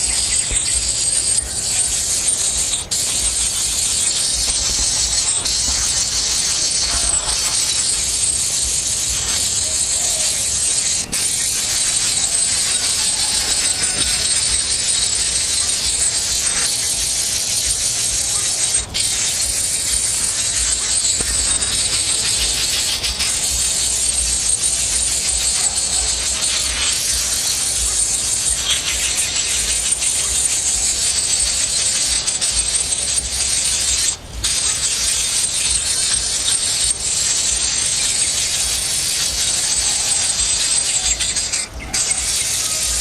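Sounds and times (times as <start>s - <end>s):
high-pitched rattling buzz: 0.0s - 43.0s.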